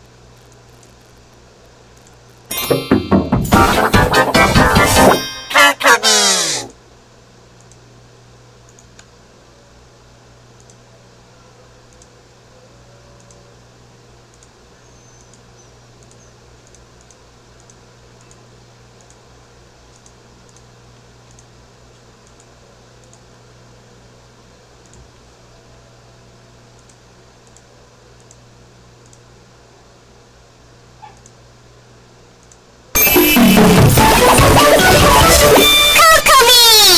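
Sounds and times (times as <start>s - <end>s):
low electrical hum: 0.0s - 36.9s.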